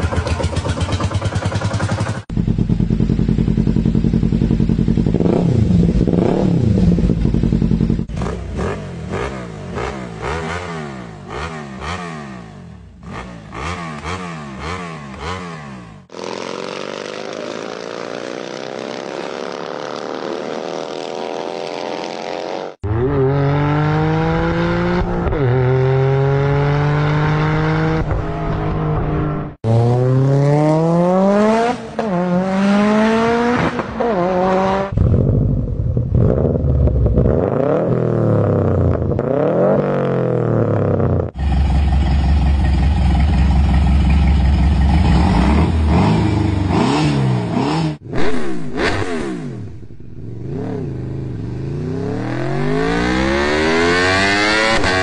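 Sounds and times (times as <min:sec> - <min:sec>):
flat twin engine accelerating: 0:00.0 - 0:55.0
four-cylinder engine accelerating: 0:00.0 - 0:55.0.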